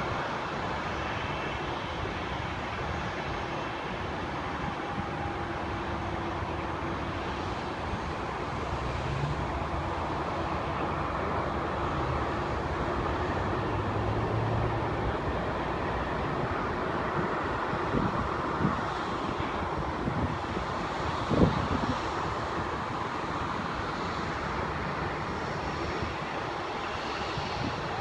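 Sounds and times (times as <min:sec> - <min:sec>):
distant roar of engines: 0:00.0 - 0:28.0.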